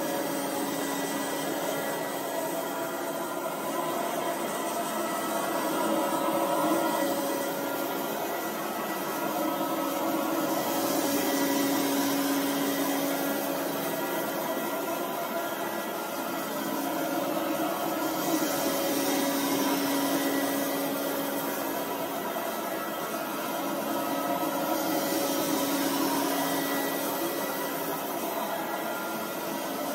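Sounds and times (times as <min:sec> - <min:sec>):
robot vacuum cleaner running: 0:00.0 - 0:29.9.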